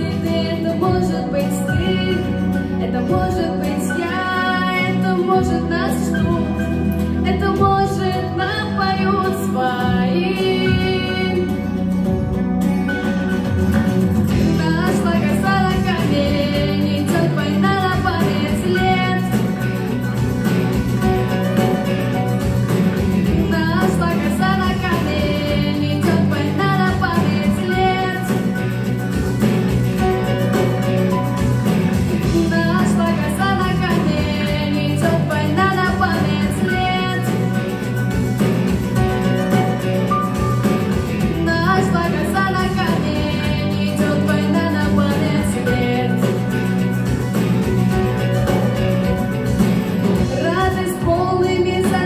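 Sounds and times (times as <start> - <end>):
pop song music: 0.0 - 52.0.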